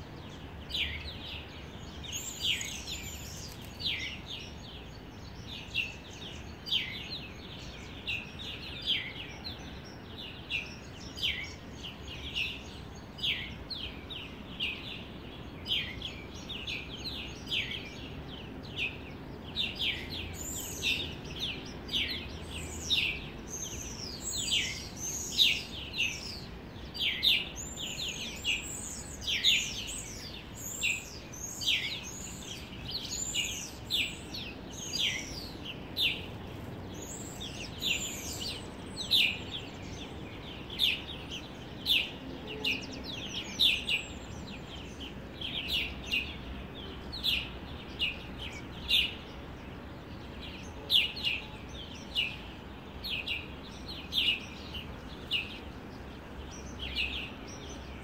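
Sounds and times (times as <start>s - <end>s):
faint steady background noise: 0.0s - 58.0s
small birds chirping: 0.0s - 58.0s.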